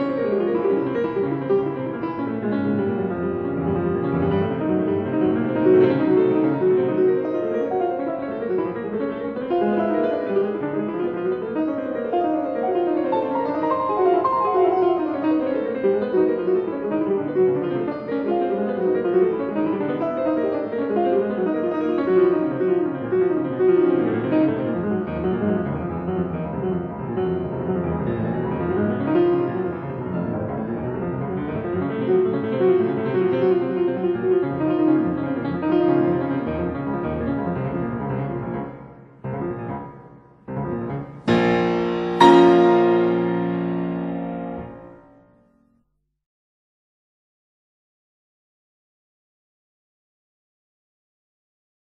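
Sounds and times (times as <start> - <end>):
piano music with quick runs: 0.0 - 45.4.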